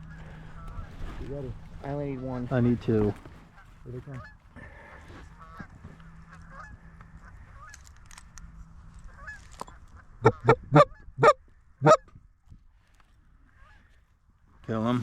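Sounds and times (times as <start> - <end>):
geese honking: 0.0 - 12.1.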